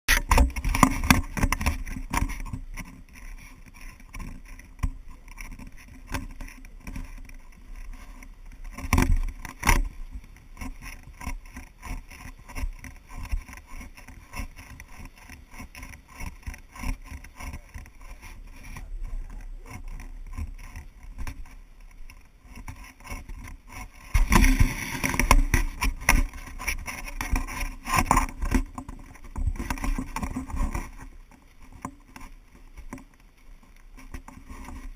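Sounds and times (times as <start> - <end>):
footsteps on dirt trail: 0.1 - 34.9.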